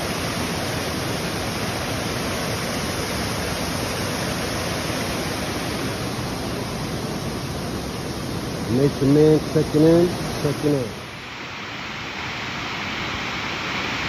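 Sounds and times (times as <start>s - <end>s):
creek rushing over rapids: 0.0s - 14.0s.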